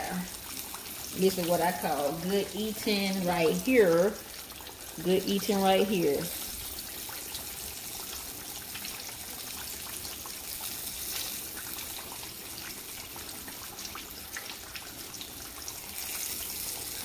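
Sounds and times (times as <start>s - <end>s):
fish deep-frying in hot oil: 0.0s - 17.0s.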